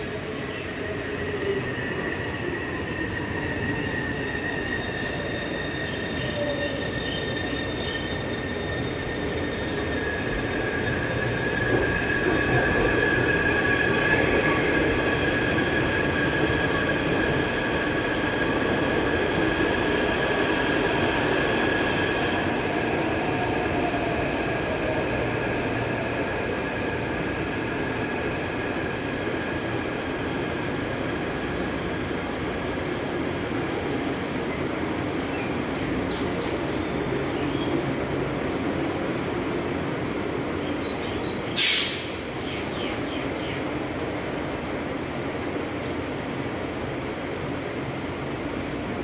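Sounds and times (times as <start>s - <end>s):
train wheels squealing on rails: 0.0s - 46.7s
train rumble: 0.0s - 49.0s.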